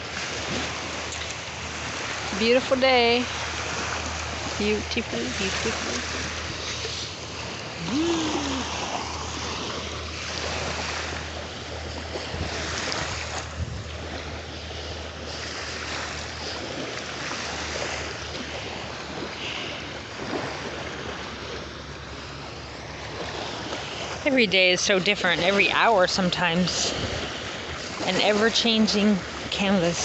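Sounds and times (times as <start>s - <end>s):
ocean waves breaking on beach: 0.0s - 30.0s
wind rumble on microphone: 0.0s - 30.0s.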